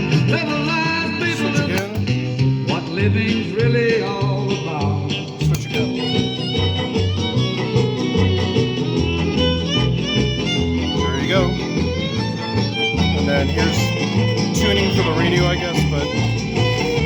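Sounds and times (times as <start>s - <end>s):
country music with fiddle and guitar: 0.0s - 17.0s.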